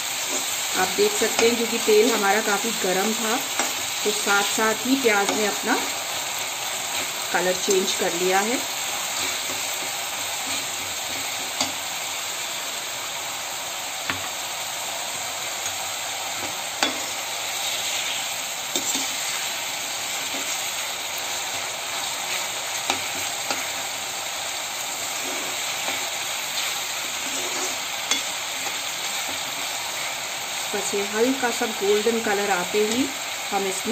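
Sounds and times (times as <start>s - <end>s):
onions sizzling in hot oil: 0.0s - 33.9s.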